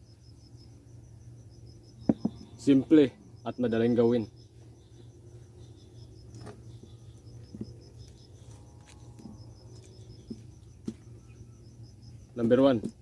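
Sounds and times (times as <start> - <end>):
insect chirping trill: 0.0 - 13.0
low steady hum: 0.0 - 13.0.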